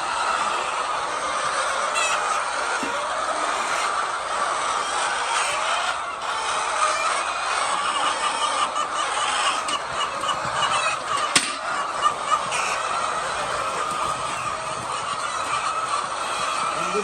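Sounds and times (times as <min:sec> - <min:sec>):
poultry calling: 0:00.0 - 0:17.0.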